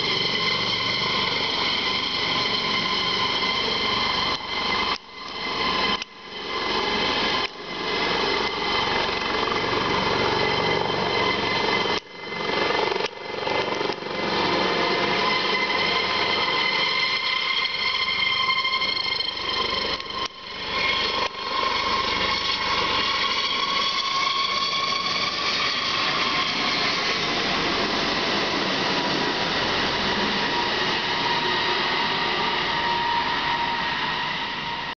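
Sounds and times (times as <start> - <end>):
helicopter turbine and rotor: 0.0 - 34.9.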